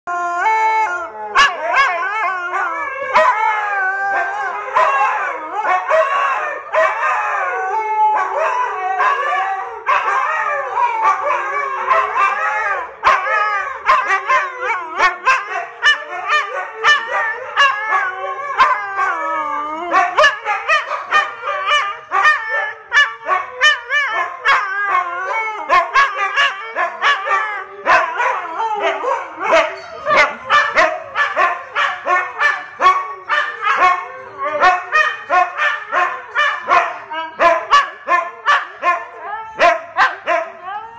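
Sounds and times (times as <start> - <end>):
dogs howling: 0.1 - 40.9
dogs barking and yipping: 1.3 - 40.9.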